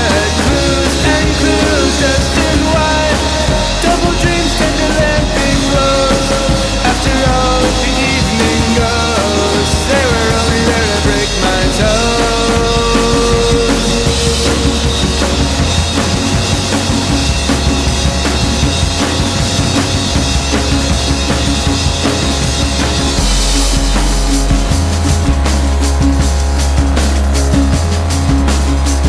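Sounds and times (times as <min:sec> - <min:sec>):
instrumental rock music with drums: 0:00.0 - 0:29.0.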